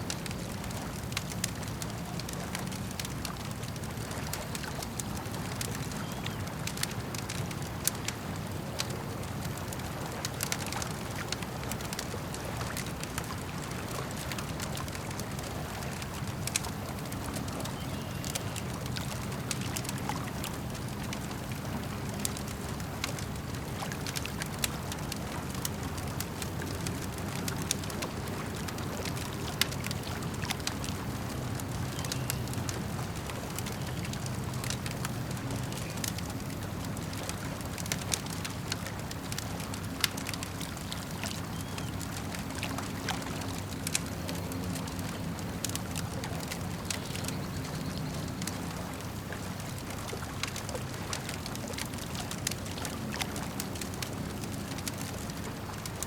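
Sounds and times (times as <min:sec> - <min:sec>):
campfire crackling and popping: 0:00.0 - 0:56.0
lake water washing: 0:00.0 - 0:56.0.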